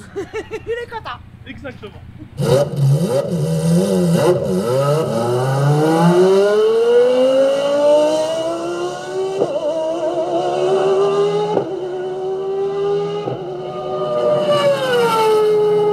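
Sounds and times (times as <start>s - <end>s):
car engine accelerating hard: 2.4s - 15.9s.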